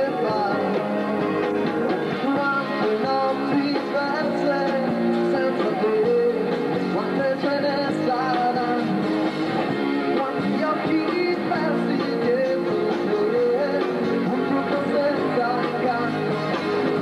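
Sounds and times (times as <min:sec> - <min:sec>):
drum kit: 0:00.0 - 0:17.0
electric keyboards: 0:00.0 - 0:17.0
guitar: 0:00.0 - 0:17.0.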